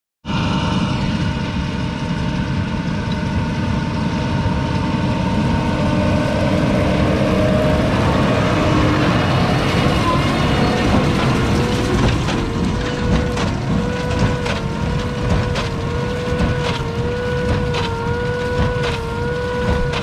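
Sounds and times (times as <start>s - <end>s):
tractor diesel engine running: 0.4s - 20.0s.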